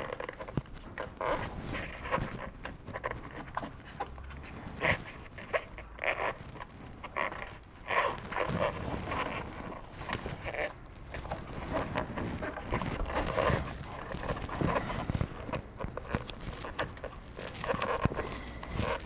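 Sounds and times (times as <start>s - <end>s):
rustling and scraping of cables: 0.0s - 19.0s.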